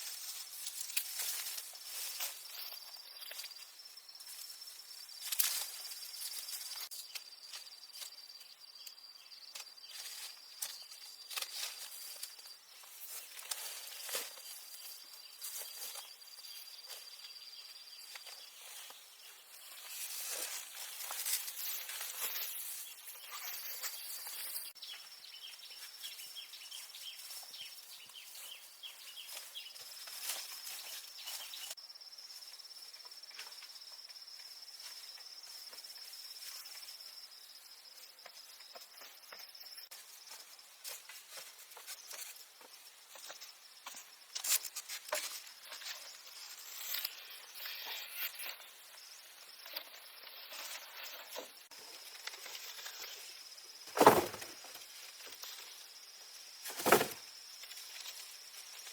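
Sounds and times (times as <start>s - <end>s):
high-pitched insect trill: 0.0s - 58.9s.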